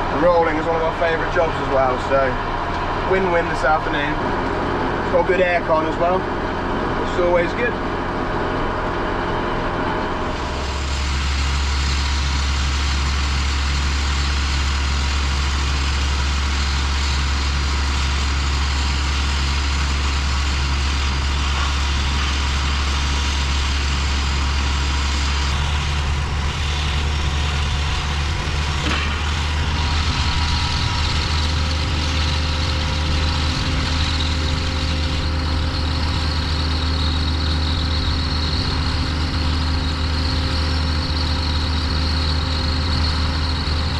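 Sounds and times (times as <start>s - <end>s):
tractor diesel engine droning: 0.0s - 43.9s.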